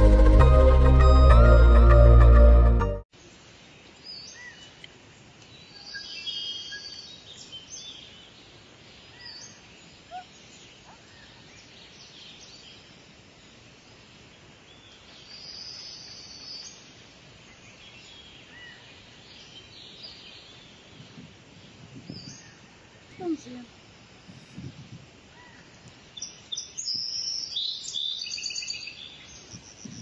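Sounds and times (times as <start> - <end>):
faint background hiss: 3.1 - 30.0
small birds chirping and singing: 3.2 - 23.7, 24.3 - 30.0.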